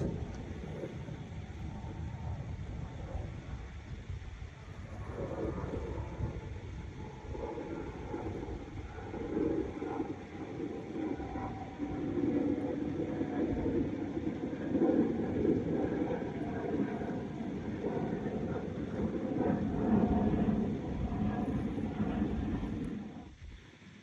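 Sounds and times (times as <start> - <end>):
wind gusting over microphone: 0.0 - 23.7.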